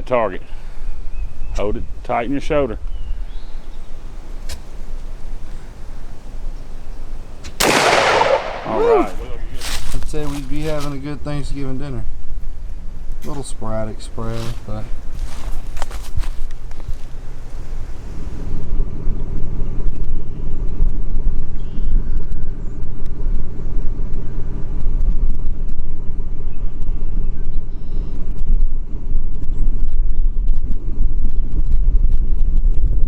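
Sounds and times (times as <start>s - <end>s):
vehicle engine rumbling: 0.0s - 33.0s.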